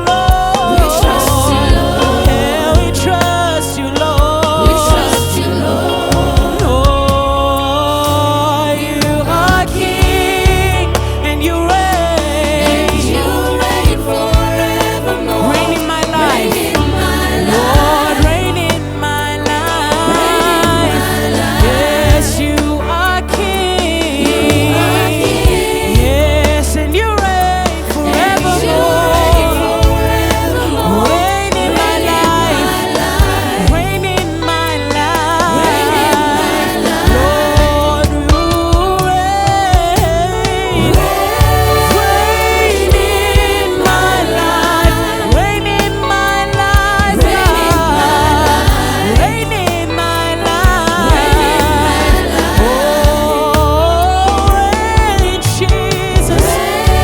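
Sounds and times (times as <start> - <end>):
church band playing gospel music: 0.0 - 57.0
voices singing: 0.0 - 57.0.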